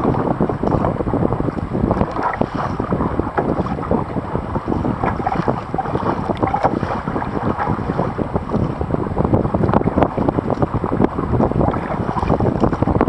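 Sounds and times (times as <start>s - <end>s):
paddle splashing water: 0.0s - 13.0s
wind across microphone: 0.0s - 13.0s.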